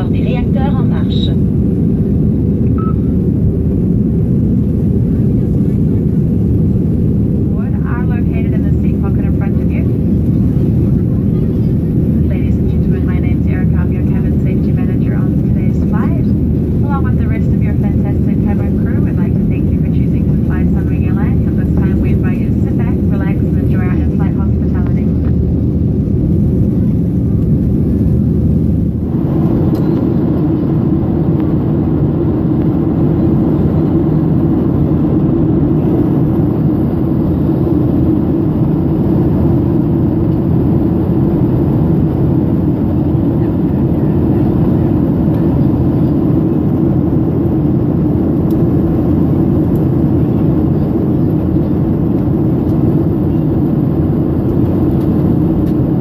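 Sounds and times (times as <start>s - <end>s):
jet engine noise in cabin: 0.0s - 56.0s.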